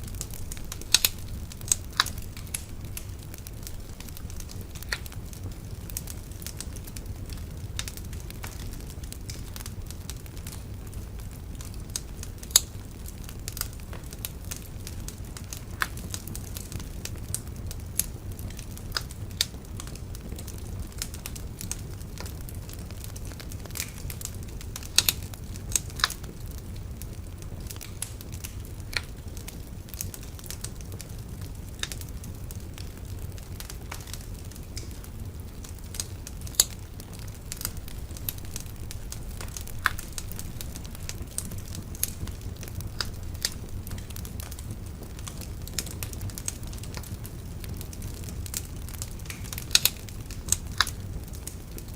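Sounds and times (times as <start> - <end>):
bonfire crackling and popping: 0.0 - 51.9.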